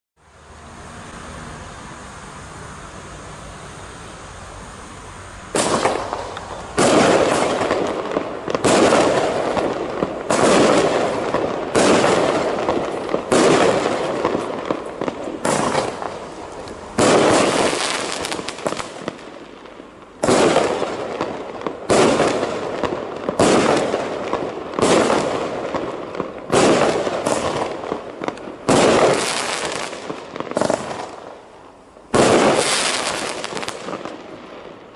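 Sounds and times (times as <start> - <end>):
fireworks bangs: 5.5 - 34.9.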